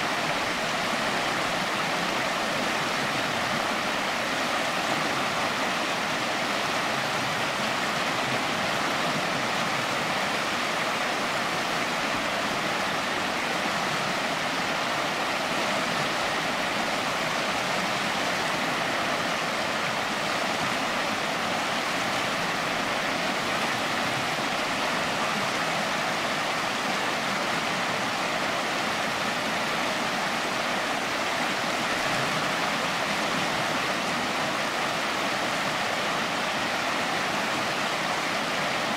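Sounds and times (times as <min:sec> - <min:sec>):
river water running over rocks: 0:00.0 - 0:38.9.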